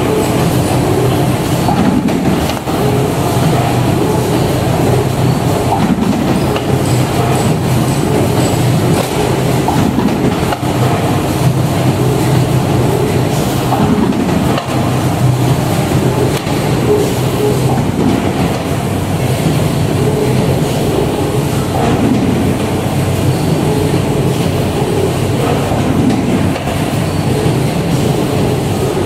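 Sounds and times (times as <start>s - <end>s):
machine humming and rumbling: 0.0s - 29.0s.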